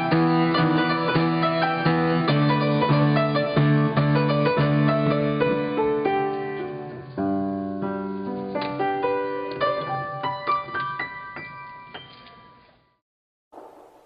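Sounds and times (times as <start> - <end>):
piano playing: 0.0 - 12.7.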